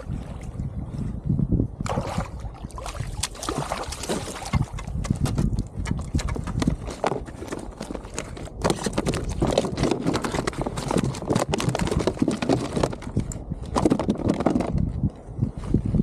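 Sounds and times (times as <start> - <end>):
fish thrashing on plastic deck: 1.9 - 14.8.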